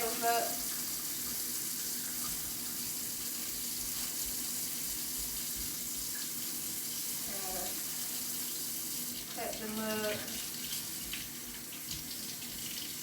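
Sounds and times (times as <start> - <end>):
sink tap running: 0.0 - 13.0.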